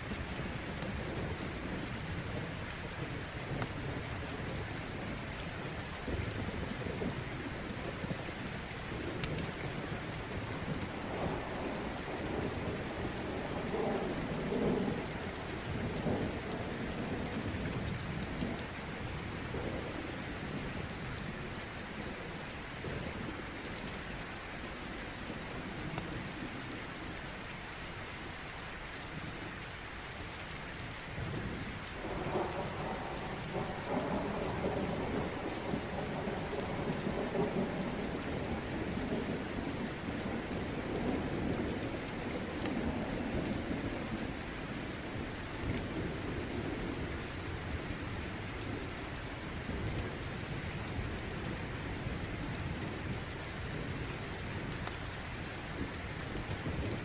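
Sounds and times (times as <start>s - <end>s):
steady rain falling: 0.0s - 57.0s
low thunder rumbling: 0.1s - 23.4s, 31.2s - 54.8s.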